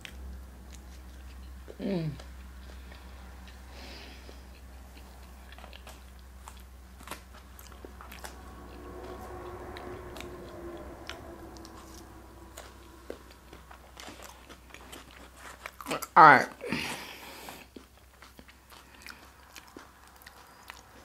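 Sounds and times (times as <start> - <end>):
chewing crunchy salad: 0.0 - 21.0.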